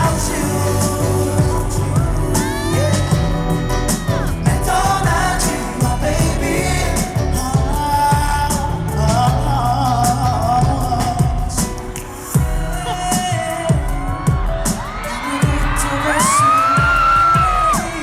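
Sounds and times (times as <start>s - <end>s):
man singing: 0.0s - 18.0s
pop backing track with bass beat: 0.0s - 18.0s.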